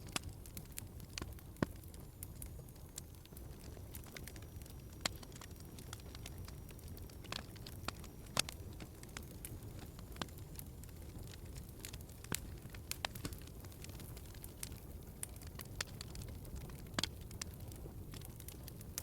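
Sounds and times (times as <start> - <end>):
fire pops and snaps: 0.0 - 19.0
low fire rumble: 0.0 - 19.0.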